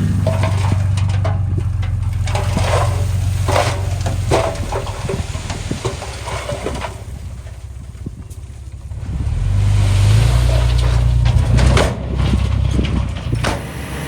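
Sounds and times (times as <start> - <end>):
diesel engine humming: 0.0 - 14.0
stones and soil crunching: 0.0 - 14.0.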